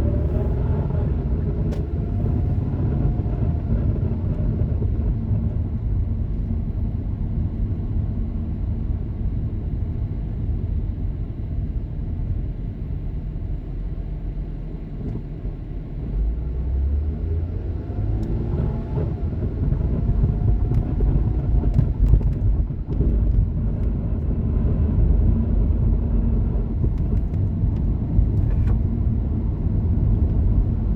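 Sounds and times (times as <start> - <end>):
car driving rumble: 0.0 - 30.9.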